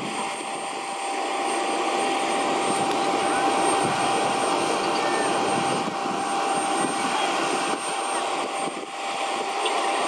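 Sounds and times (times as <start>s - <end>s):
jet turbine whine: 0.0s - 10.0s.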